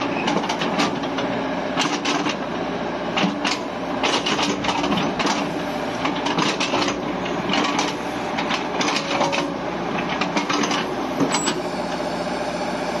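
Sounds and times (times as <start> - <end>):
excavator boom clanks and rattles: 0.0 - 12.0
excavator diesel engine running: 0.0 - 13.0.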